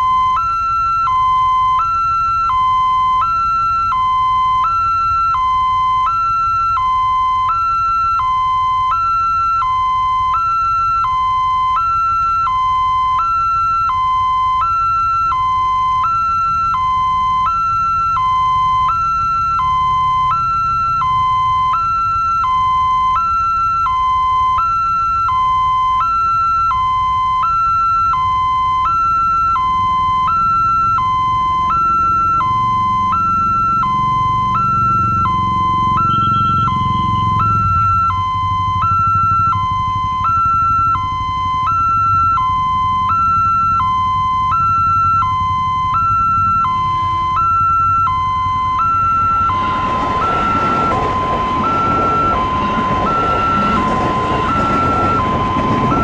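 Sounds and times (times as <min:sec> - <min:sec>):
level crossing two-tone alarm: 0:00.0 - 0:56.0.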